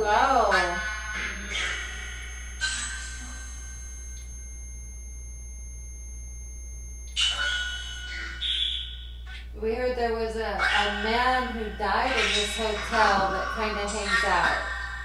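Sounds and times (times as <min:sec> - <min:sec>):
low steady hum: 0:00.0 - 0:15.0
ringing tones: 0:00.0 - 0:15.0.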